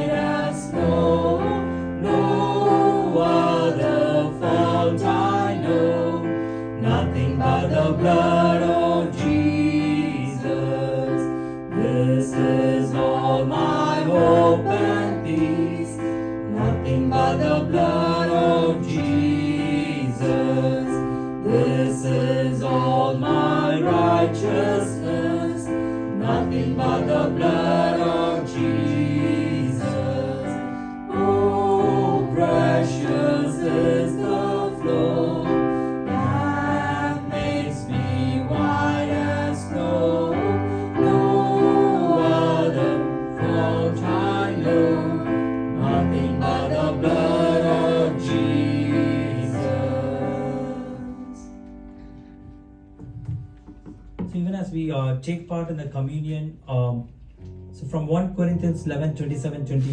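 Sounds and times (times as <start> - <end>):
choir singing a hymn: 0.0 - 52.3
instrumental accompaniment: 0.0 - 54.6.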